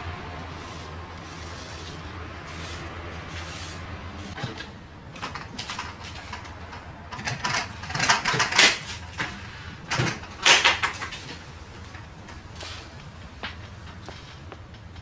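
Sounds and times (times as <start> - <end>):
scrapes and rustles of objects moved: 0.0 - 15.0.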